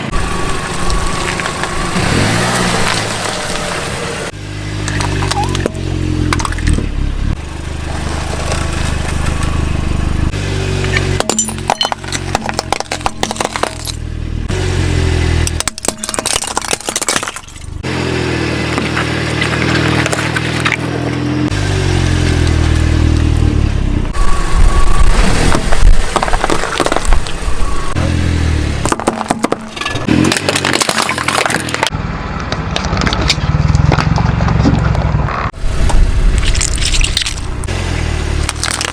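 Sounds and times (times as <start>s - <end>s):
car engine running: 0.0s - 38.9s
objects crunching under tyres: 0.0s - 38.9s.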